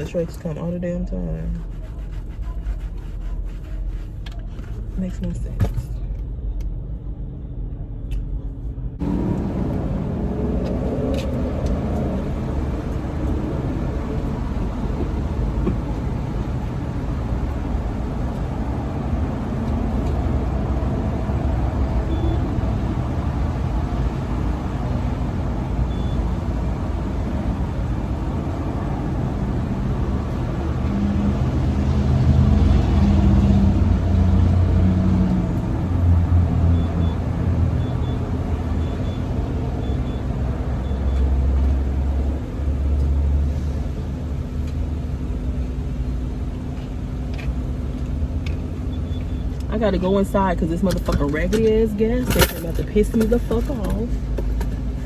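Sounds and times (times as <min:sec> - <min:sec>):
deep engine hum: 0:00.0 - 0:55.0
traffic rumble: 0:00.0 - 0:55.0.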